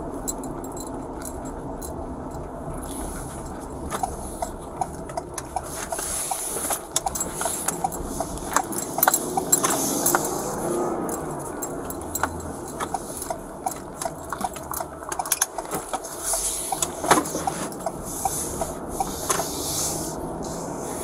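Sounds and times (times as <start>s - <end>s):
engine and road hum: 0.0s - 21.0s.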